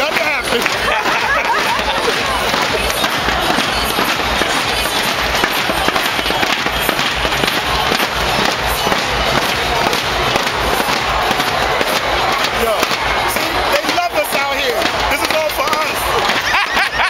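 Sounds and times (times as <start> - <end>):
music with bass beat: 0.0 - 17.0.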